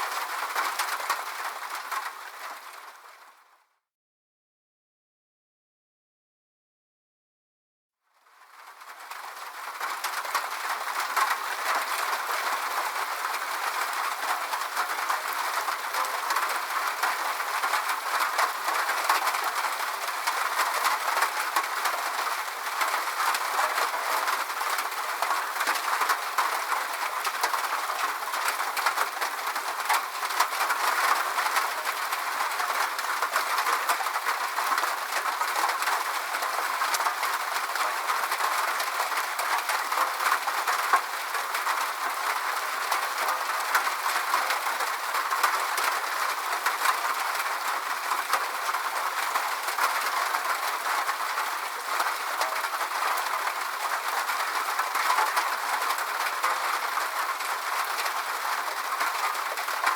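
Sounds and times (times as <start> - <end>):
steady rain falling: 0.0 - 3.6, 8.2 - 59.9.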